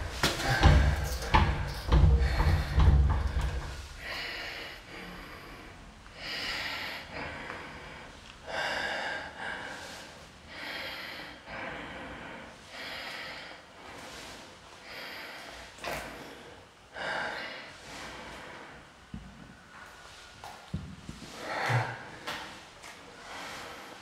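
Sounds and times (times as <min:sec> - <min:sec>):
person breathing heavily: 0:00.0 - 0:20.6, 0:21.2 - 0:24.0.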